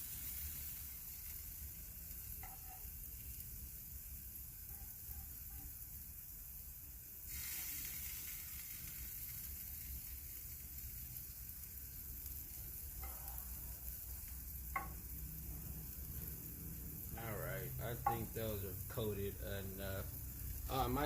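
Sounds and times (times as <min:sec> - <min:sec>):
chicken sizzling on a grill: 0:00.0 - 0:21.0.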